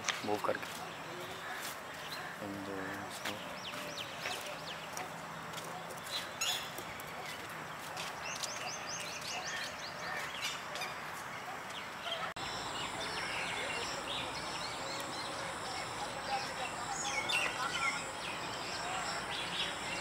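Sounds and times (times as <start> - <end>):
outdoor background hiss: 0.0 - 20.0
small birds chirping: 0.0 - 20.0.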